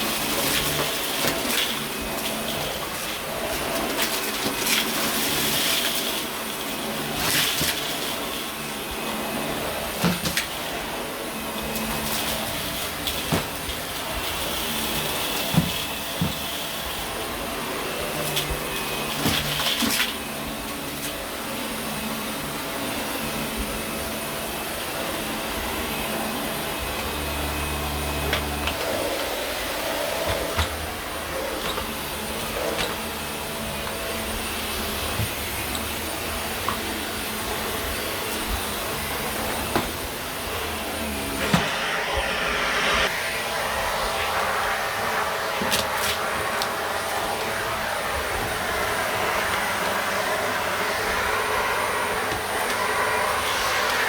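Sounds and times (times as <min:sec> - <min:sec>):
vacuum cleaner running over carpet: 0:00.0 - 0:54.0.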